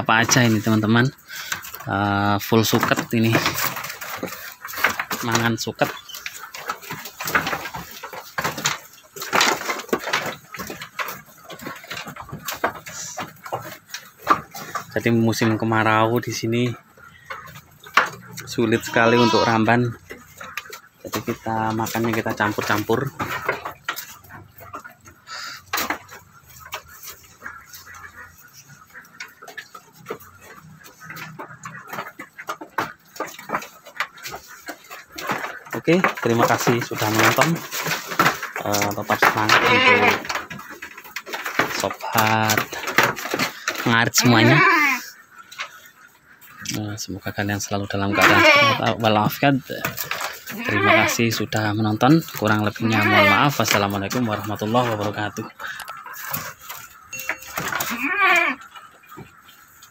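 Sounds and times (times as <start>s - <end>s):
goats crunching grass: 0.0s - 59.9s
rustling: 0.0s - 59.9s.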